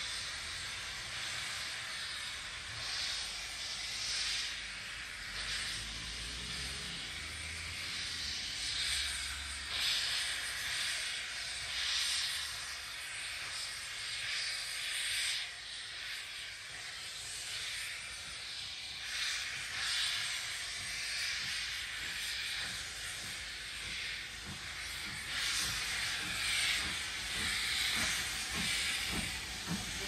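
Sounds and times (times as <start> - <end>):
steam locomotive hissing steam: 0.0 - 30.0.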